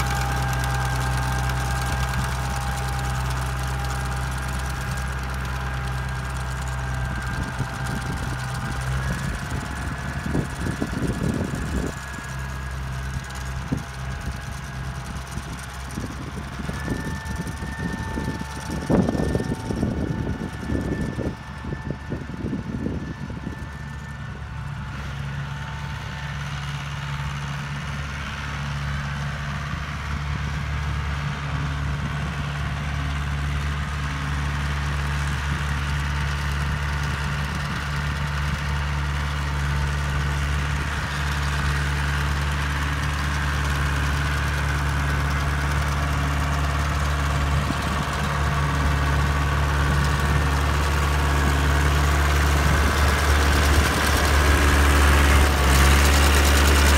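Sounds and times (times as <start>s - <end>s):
tractor engine running steadily: 0.0s - 56.9s.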